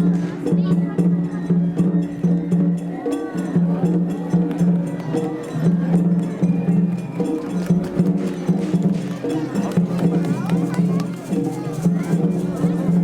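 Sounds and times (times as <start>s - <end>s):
faint crowd voices: 0.0s - 13.0s
sharp clicking percussion: 0.0s - 13.0s.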